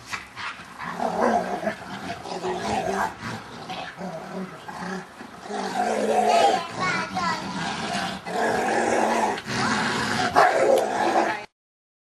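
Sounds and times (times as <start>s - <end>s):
dogs growling: 0.4s - 11.5s.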